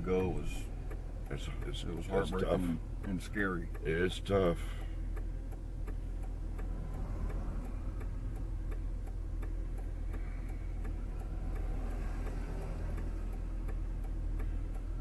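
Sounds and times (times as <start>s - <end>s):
engine and road rumble: 0.0s - 15.0s
turn signal ticking: 0.0s - 15.0s.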